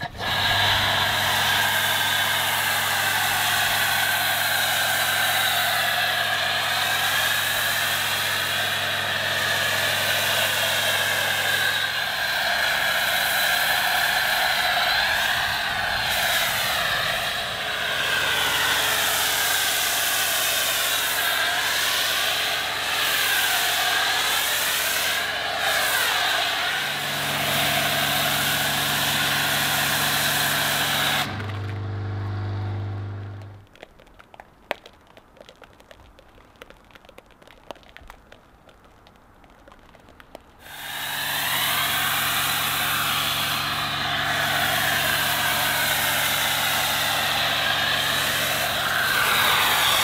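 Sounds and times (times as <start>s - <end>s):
pump motor hum: 0.0s - 23.7s, 24.4s - 33.6s, 40.6s - 50.0s
pressure washer spray hiss: 0.1s - 31.4s, 40.6s - 50.0s.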